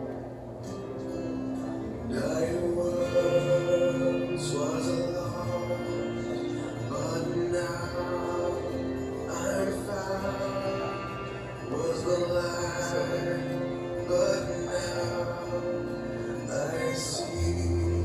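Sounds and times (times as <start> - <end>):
worship song with singing voice: 1.9 - 18.0.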